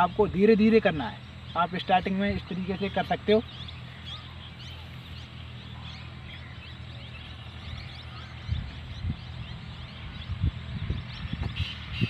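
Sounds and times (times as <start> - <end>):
small birds chirping: 0.0 - 12.0
steady low drone: 0.0 - 12.0.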